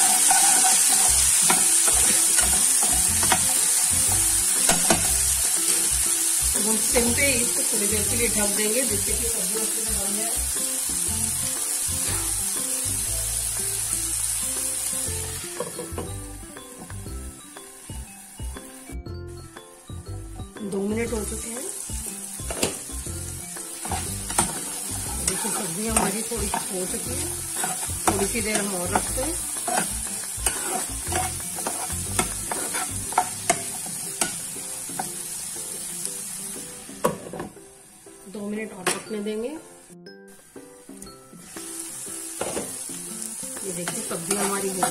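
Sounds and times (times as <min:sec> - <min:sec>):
vegetables sizzling in oil: 0:00.0 - 0:19.0, 0:19.6 - 0:44.9
background music: 0:00.0 - 0:44.9.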